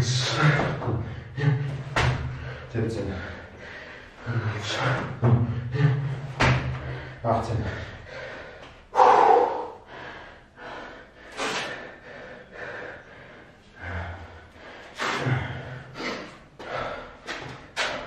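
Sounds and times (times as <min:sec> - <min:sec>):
man breathing hard: 0:00.0 - 0:18.0.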